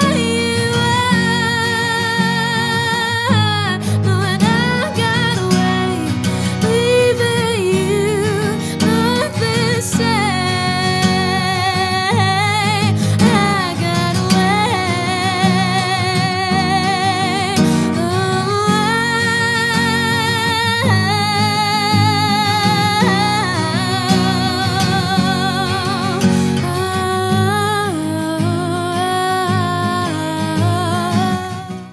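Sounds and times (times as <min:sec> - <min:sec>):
guitar chords: 0:00.0 - 0:31.9
woman singing with vibrato: 0:00.0 - 0:31.9.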